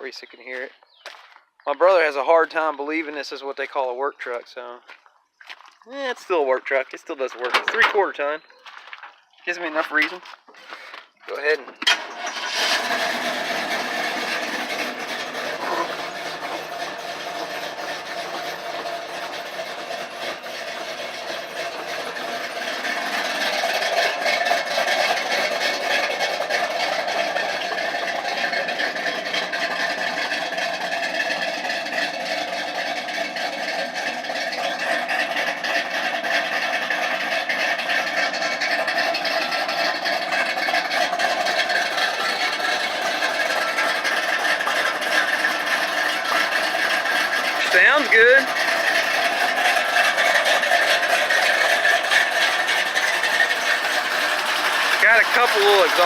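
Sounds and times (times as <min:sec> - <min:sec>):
car engine idling: 0:09.8 - 0:56.0.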